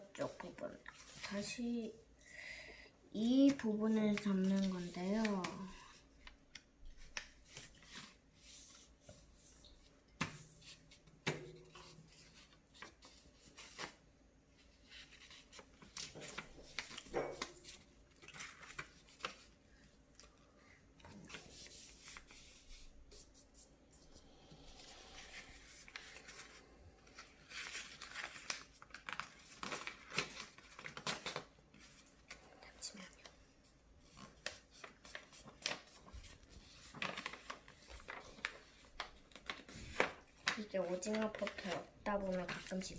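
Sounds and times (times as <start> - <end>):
paper rustling and crinkling: 0.1 - 2.0, 3.2 - 24.2, 24.8 - 42.9.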